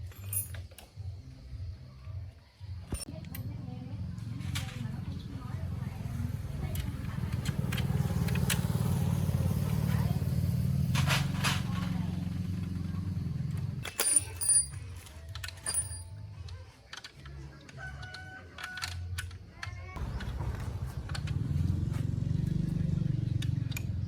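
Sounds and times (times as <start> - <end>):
motorcycle engine idling: 1.0 - 16.9, 20.0 - 24.0.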